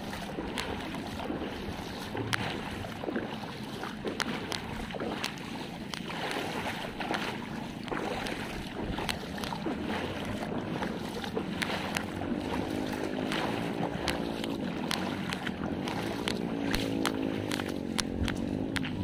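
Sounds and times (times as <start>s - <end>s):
motor droning: 0.0s - 19.0s
water sloshing and splashing: 0.0s - 19.0s
wind buffeting microphone: 0.0s - 19.0s.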